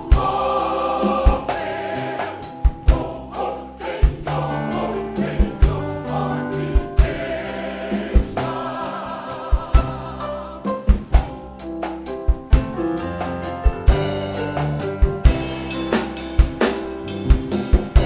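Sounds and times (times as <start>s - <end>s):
choir singing gospel with band: 0.0s - 12.0s, 13.2s - 18.0s
drum beats: 0.0s - 18.0s.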